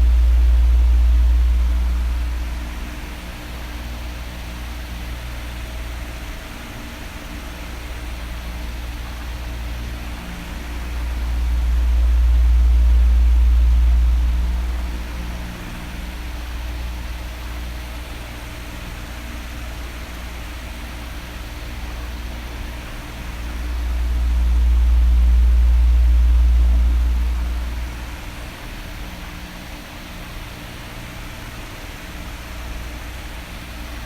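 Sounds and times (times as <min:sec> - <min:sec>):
electric fan running: 0:00.0 - 0:34.0.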